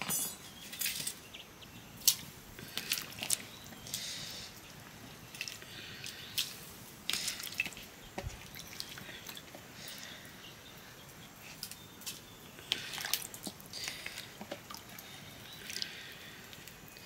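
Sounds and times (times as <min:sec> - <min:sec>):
water dripping and splashing: 0:02.0 - 0:17.0.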